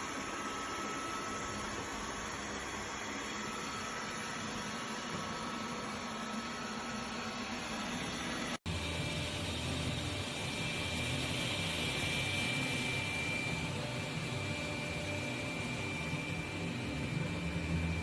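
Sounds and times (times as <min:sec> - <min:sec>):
robot vacuum running: 0:00.0 - 0:18.0.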